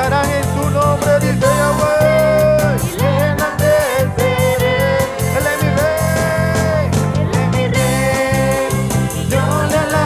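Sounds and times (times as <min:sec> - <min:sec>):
electric bass guitar line: 0:00.0 - 0:10.0
man singing a long note: 0:00.6 - 0:10.0.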